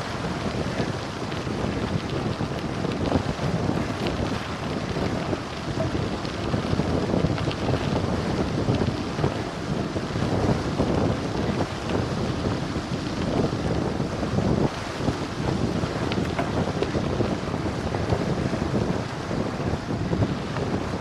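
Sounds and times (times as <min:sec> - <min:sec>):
tyres rumbling on gravel: 0:00.0 - 0:21.0
wind buffeting microphone: 0:00.0 - 0:21.0.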